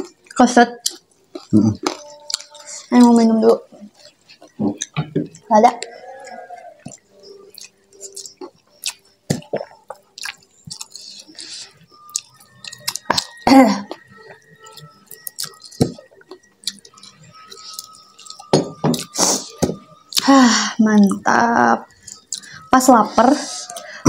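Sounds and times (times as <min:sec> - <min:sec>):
chewing and mouth smacks: 0:00.0 - 0:19.2, 0:22.0 - 0:22.8.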